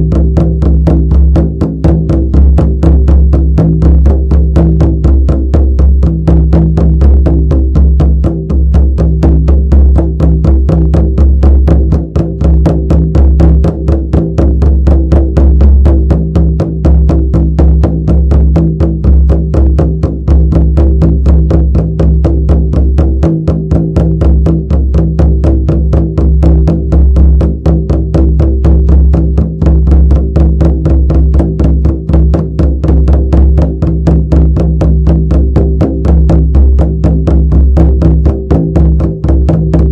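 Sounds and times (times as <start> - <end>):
frame drum beaten fast: 0.0 - 39.9.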